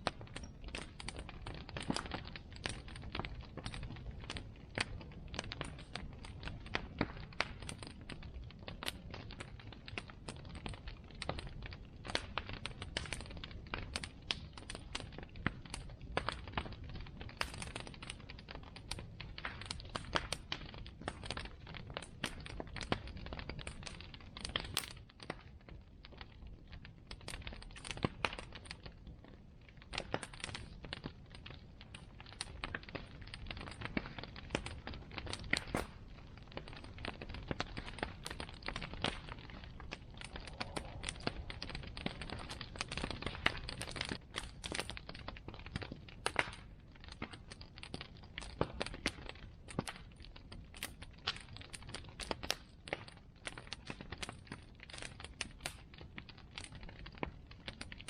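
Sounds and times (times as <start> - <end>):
bonfire crackling: 0.0 - 58.0
low steady fire rumble: 0.0 - 58.0.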